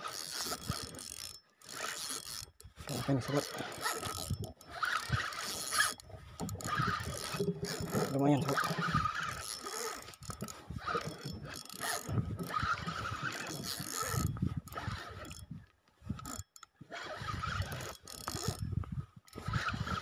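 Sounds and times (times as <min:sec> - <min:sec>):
fishing reel whirring ratchet: 0:00.0 - 0:20.0.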